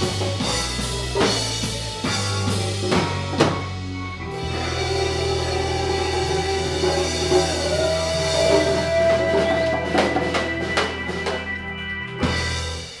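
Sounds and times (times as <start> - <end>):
drum kit hits: 0.0 - 13.0
reggae band holding a chord: 0.0 - 13.0.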